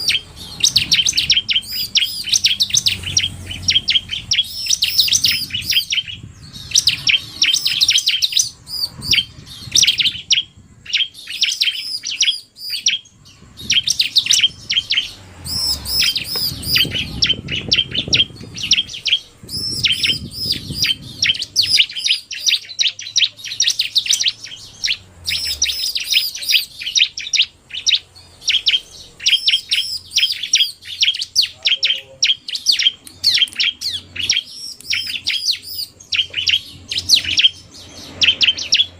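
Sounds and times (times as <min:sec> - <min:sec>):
bird fast calls: 0:00.0 - 0:38.9
birds singing chirping trills: 0:00.0 - 0:38.9.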